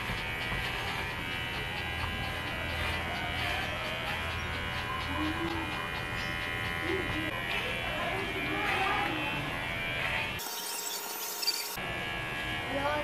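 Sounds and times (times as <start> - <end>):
electric pet clipper buzzing: 0.0 - 13.0.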